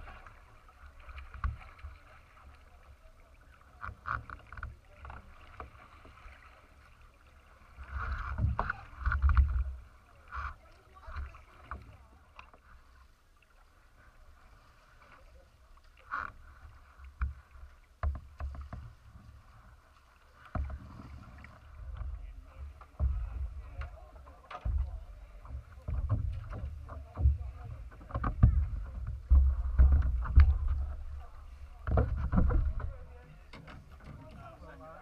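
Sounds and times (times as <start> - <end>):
paddle splashes and drips: 0.0 - 35.0
water splashing against kayak hull: 0.0 - 35.0.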